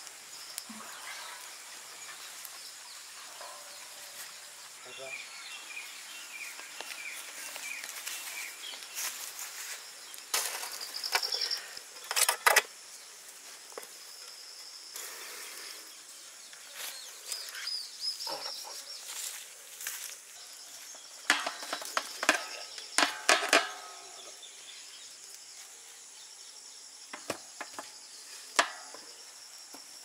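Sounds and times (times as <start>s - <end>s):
small birds chirping: 0.0s - 12.0s, 12.8s - 30.0s.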